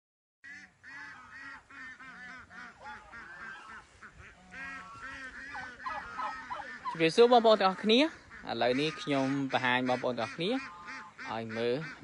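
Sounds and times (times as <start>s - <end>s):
turkeys yelping: 0.5s - 12.0s.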